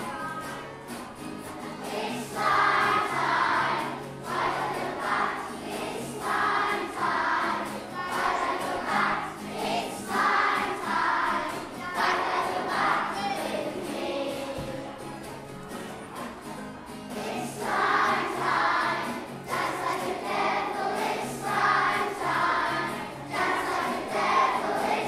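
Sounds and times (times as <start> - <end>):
choir singing: 1.8 - 15.0, 17.1 - 25.0.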